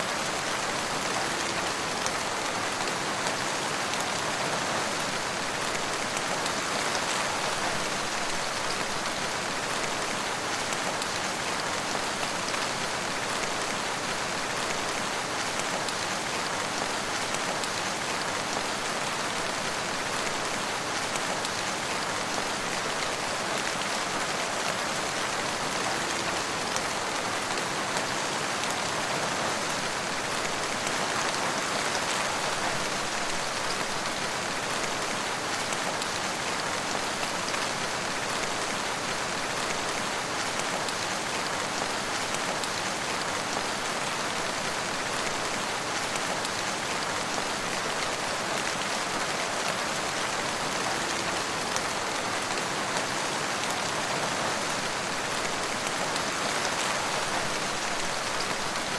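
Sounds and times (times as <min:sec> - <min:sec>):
rain falling on surfaces: 0:00.0 - 0:58.9.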